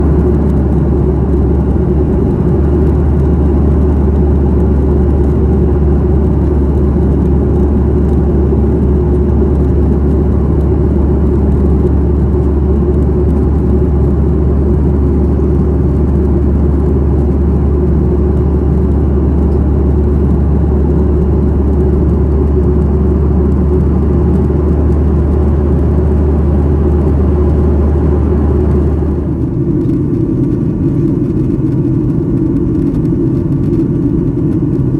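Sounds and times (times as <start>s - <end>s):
airplane cabin engine drone: 0.0s - 34.9s.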